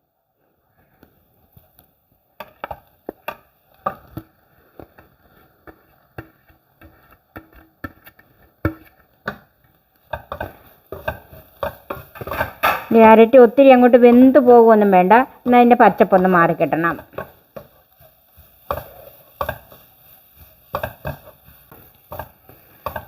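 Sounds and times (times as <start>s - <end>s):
spoon scraping and knocking pan: 1.5s - 23.0s.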